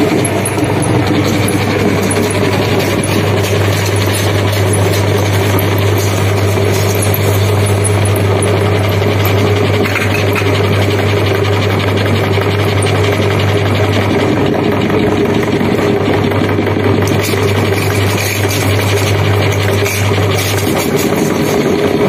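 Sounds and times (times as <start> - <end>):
crunchy chips being ground: 0.0 - 13.4, 16.8 - 22.0
meat grinder motor humming: 0.0 - 22.0.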